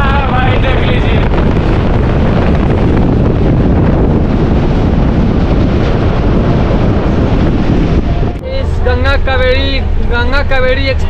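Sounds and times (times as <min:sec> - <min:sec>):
train rumbling along: 0:00.0 - 0:11.0
wind buffeting microphone: 0:00.0 - 0:11.0.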